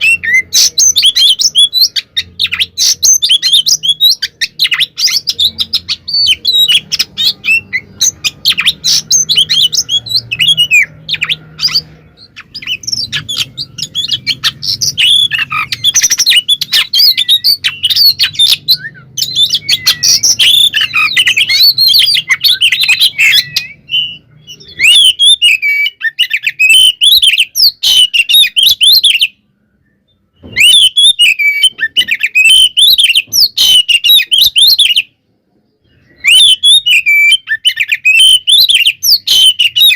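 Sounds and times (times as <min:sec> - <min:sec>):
bird singing rapid whistles: 0:00.0 - 0:35.1, 0:35.9 - 0:39.9.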